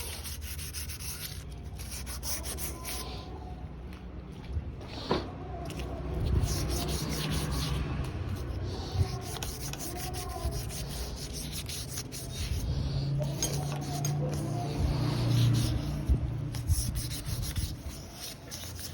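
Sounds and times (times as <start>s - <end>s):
rubbing strokes on metal part: 0.0s - 3.2s, 6.2s - 18.9s.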